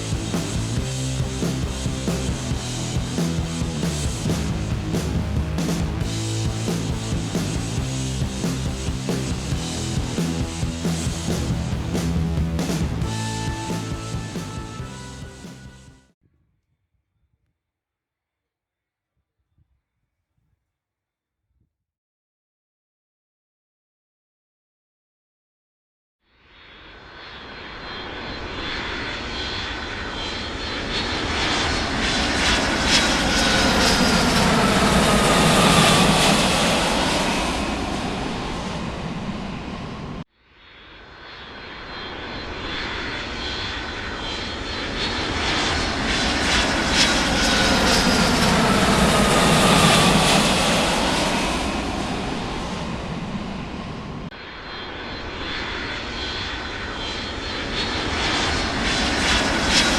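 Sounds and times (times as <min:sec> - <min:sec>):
jet airplane flying over: 0:00.0 - 0:16.1, 0:26.4 - 0:59.9.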